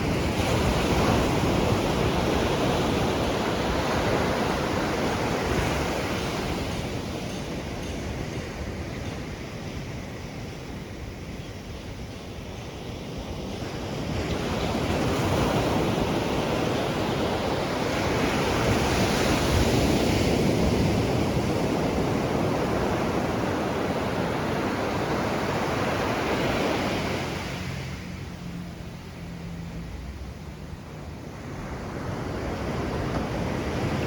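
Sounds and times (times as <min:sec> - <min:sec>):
ocean waves breaking: 0:00.0 - 0:11.4, 0:12.0 - 0:34.0.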